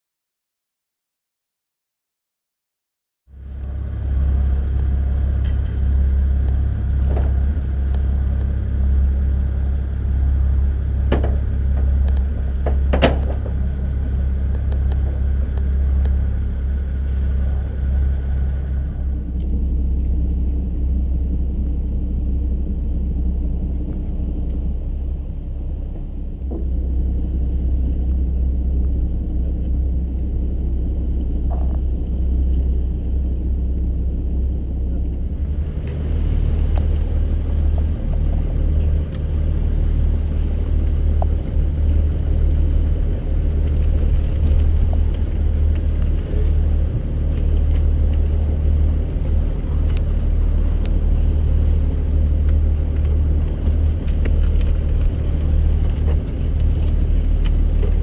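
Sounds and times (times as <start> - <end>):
boat engine droning: 3.3 - 58.0
high machine whine: 3.3 - 58.0.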